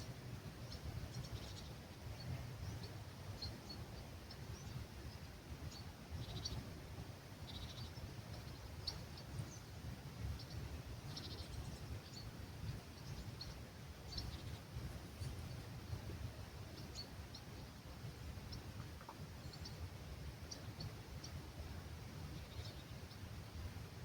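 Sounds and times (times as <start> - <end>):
small birds chirping: 0.0 - 24.0
wind rumble on microphone: 0.0 - 24.0.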